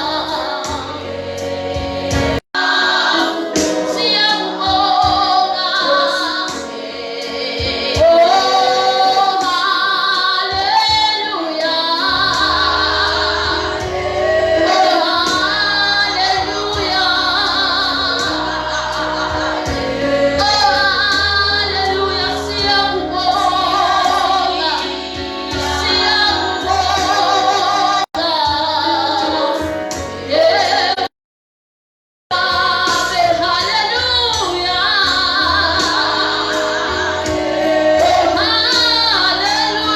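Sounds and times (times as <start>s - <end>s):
backing music: 0.0s - 31.1s, 32.3s - 39.9s
woman singing worship song: 0.0s - 31.1s, 32.3s - 39.9s.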